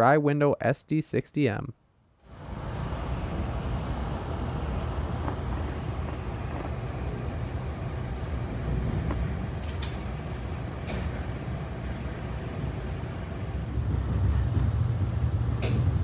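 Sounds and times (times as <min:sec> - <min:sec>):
train wheels rumbling on rails: 0:02.3 - 0:16.0.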